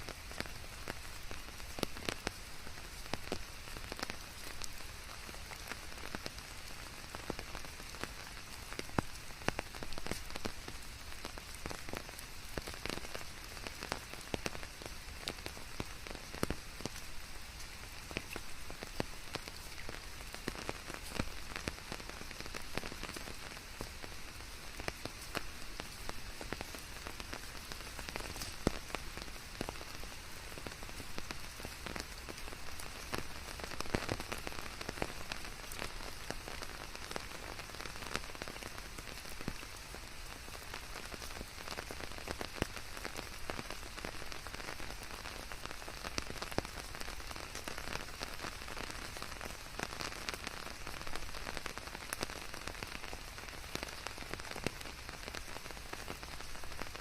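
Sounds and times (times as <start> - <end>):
rain falling: 0.0 - 57.0
raindrops striking a surface: 0.0 - 57.0.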